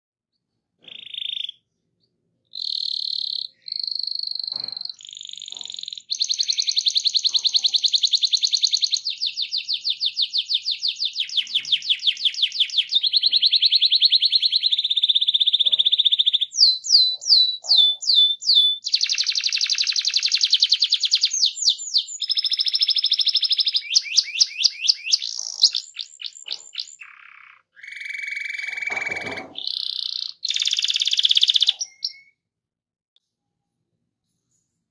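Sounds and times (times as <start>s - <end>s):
canary singing trills: 0.8s - 32.4s.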